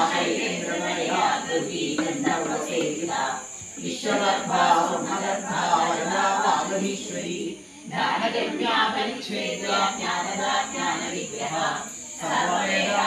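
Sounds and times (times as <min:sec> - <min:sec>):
high hiss: 0:00.0 - 0:13.0
voices chanting hymns: 0:00.0 - 0:13.0.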